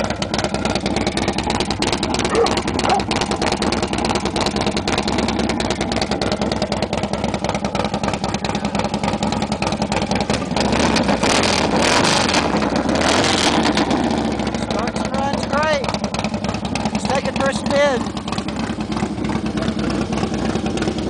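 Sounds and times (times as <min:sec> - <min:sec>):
motorcycle exhaust pulses: 0:00.0 - 0:21.0.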